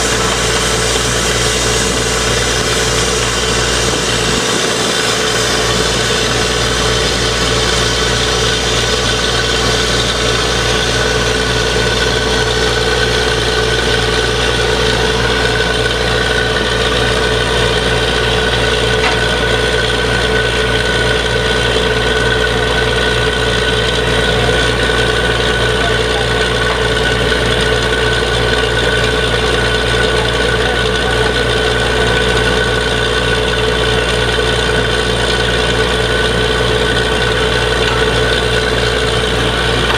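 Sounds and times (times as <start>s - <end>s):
drilling rig engine hum: 0.0s - 39.9s
steady whine: 0.0s - 39.9s.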